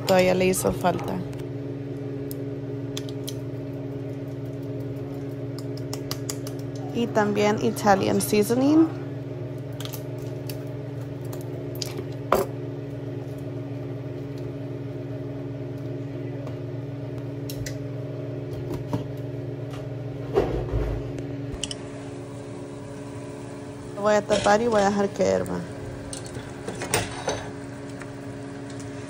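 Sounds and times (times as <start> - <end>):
appliance motor hum: 0.0 - 29.0.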